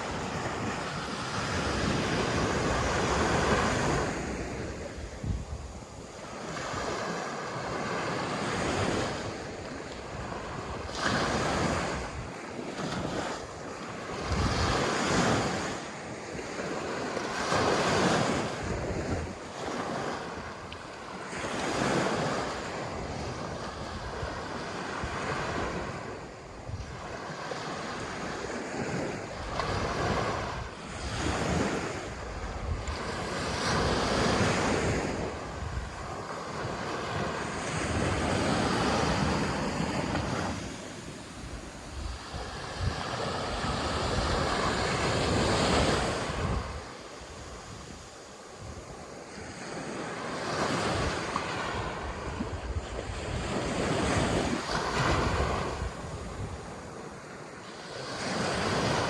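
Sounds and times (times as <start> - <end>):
wind buffeting microphone: 0.0 - 57.3
sea waves breaking on beach: 0.0 - 59.0.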